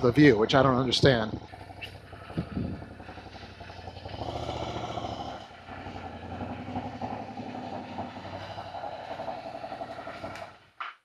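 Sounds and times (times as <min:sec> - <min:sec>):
motorcycle engine running at low revs: 0:00.0 - 0:10.8.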